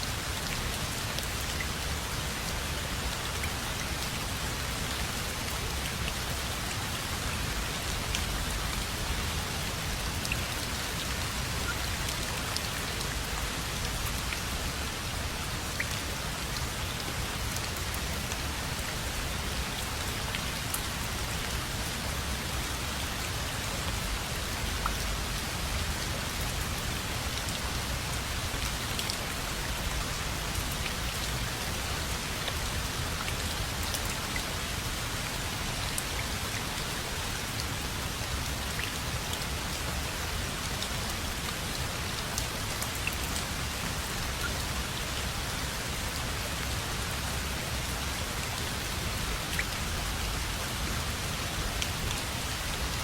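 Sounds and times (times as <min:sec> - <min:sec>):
raindrops ticking on surfaces: 0:00.0 - 0:53.0
steady rain falling: 0:00.0 - 0:53.0.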